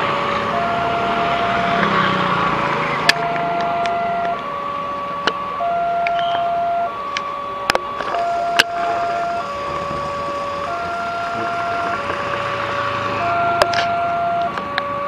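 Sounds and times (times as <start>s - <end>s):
road traffic: 0.0s - 15.0s
level crossing two-tone alarm: 0.4s - 15.0s.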